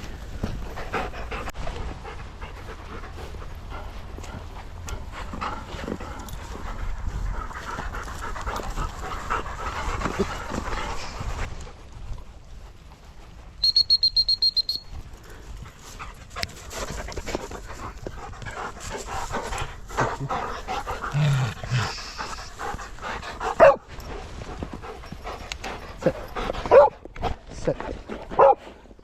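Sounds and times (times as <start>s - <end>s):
dogs panting: 0.0s - 13.6s, 15.0s - 29.0s.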